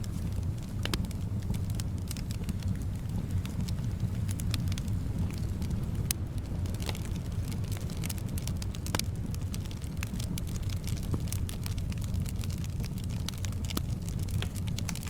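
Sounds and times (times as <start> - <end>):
low rumble of soft wind: 0.0 - 15.0
wood fire crackling and popping: 0.0 - 15.0.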